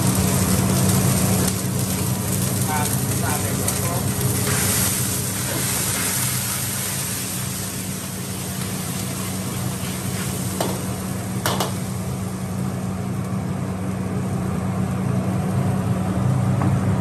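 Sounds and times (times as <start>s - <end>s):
sauce sizzling in a wok: 0.0s - 15.5s
gas burner rumble: 0.0s - 17.0s.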